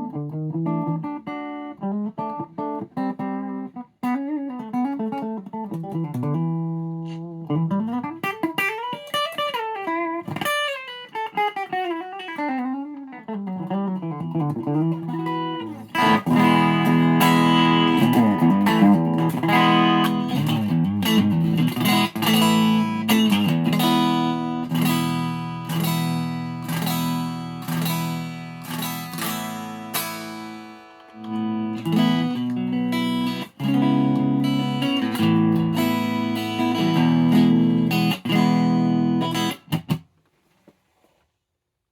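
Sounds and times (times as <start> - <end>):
electric guitar through an amp: 0.0 - 40.0.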